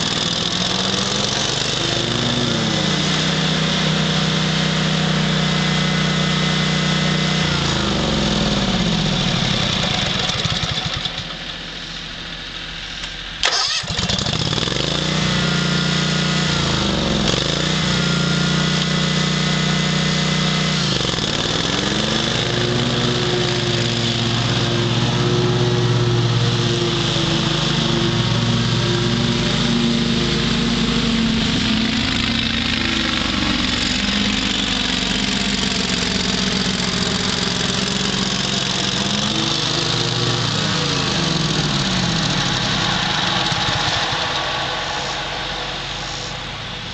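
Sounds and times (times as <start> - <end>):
mower engine running: 0.0 - 46.9.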